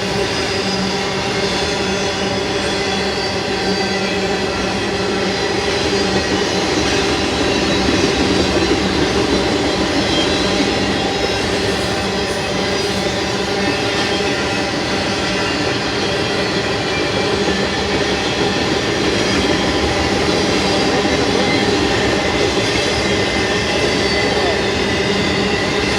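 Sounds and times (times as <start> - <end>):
freight train passing: 0.0 - 25.9.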